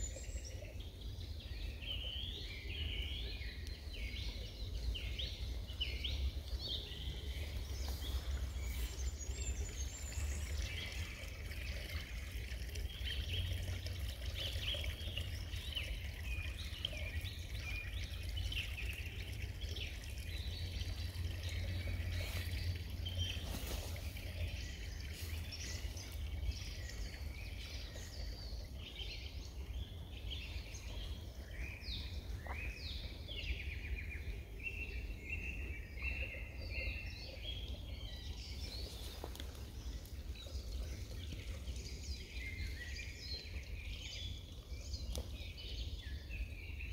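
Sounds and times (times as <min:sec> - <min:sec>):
songbirds singing and calling: 0:00.0 - 0:46.9.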